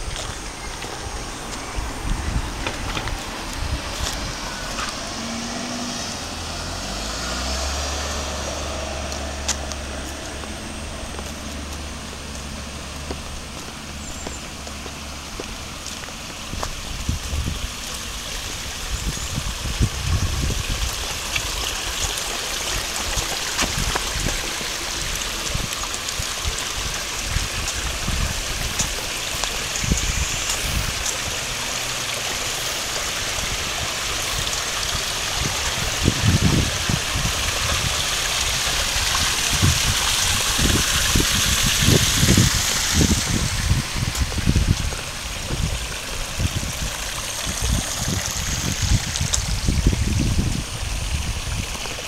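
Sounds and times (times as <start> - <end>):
stream babbling: 0.0 - 52.0.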